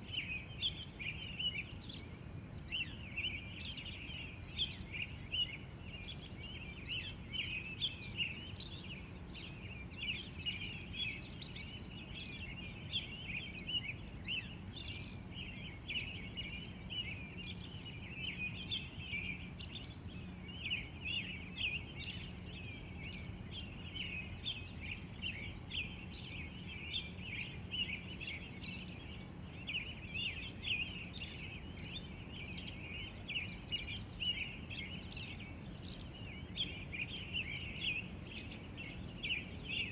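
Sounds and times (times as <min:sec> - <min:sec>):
wild birds chirping: 0:00.0 - 0:39.9.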